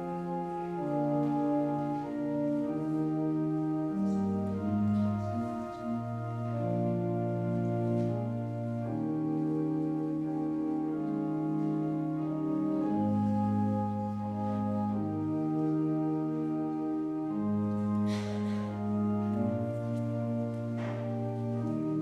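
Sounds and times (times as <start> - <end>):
church organ playing held chords: 0.0 - 22.0.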